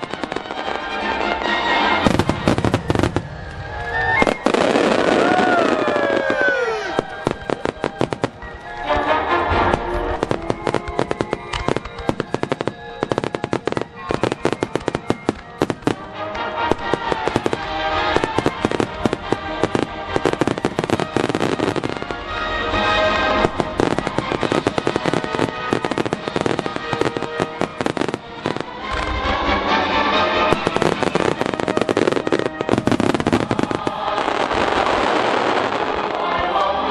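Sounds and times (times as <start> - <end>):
fireworks crackling and banging: 0.0 - 36.9
loud music: 0.0 - 36.9.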